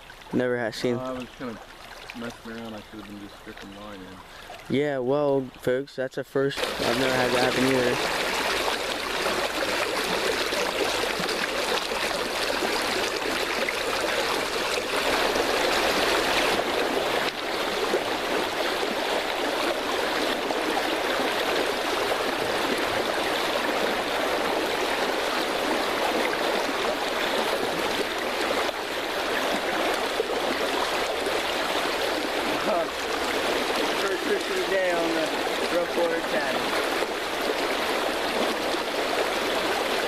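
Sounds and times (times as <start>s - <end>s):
creek water flowing: 0.0s - 40.0s.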